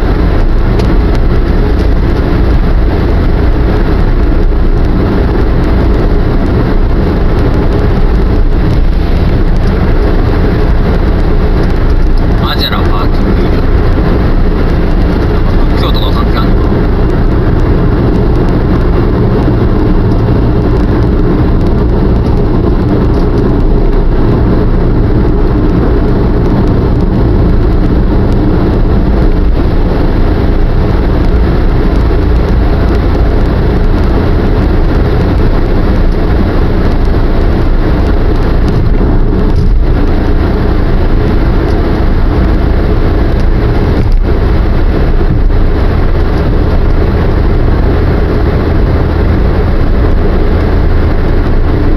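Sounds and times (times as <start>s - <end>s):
car cabin road and engine rumble: 0.0s - 51.9s.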